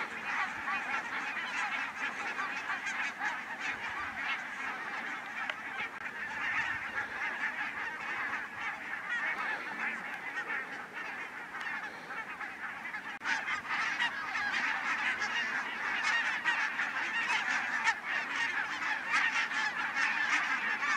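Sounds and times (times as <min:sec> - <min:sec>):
flock of geese honking: 0:00.0 - 0:20.9.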